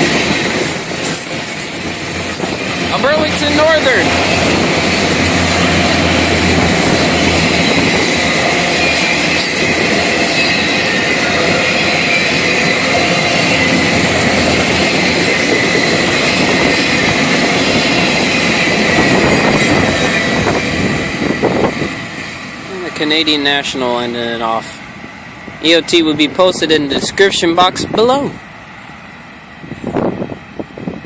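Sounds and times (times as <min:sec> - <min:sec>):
steel wheels rolling on rails: 0:00.0 - 0:31.0.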